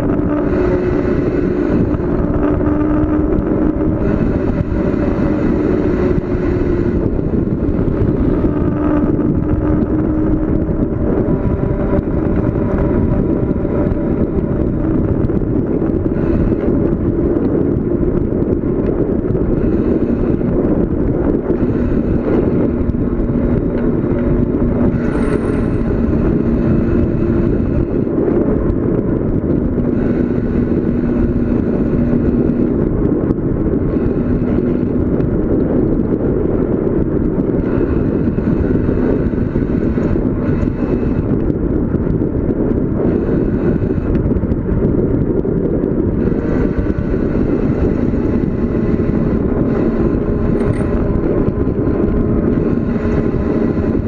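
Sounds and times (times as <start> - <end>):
bicycle road noise: 0.0 - 54.0
wavering low hum: 0.0 - 54.0
wind rush: 0.0 - 54.0.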